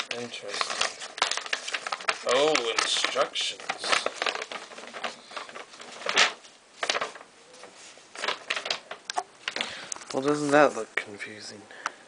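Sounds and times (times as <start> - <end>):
paper rustling: 0.0 - 10.9.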